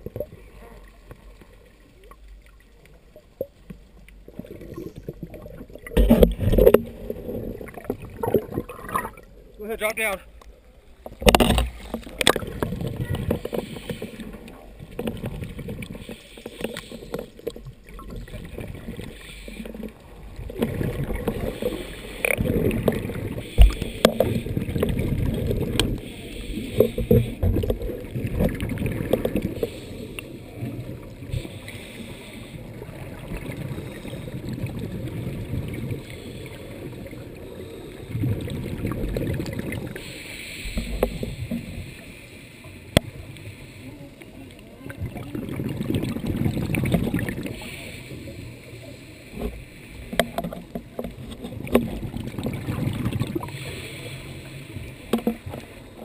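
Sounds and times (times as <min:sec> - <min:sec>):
small underwater clicks: 0:00.0 - 0:09.3, 0:10.3 - 0:43.6, 0:44.2 - 0:48.0, 0:49.0 - 0:56.0
underwater bubbling and gurgling: 0:00.0 - 0:56.0.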